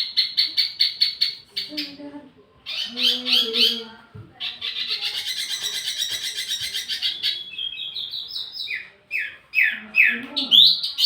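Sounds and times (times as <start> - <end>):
songbird chirping and trilling: 0.0 - 11.0.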